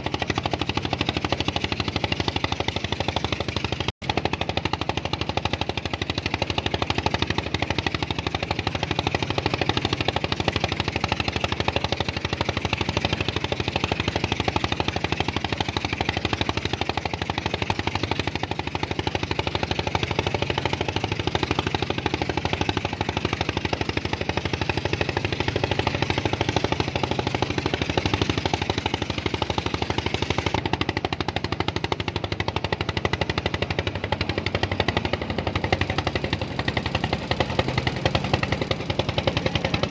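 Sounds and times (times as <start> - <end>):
small engine chugging: 0.0 - 39.9.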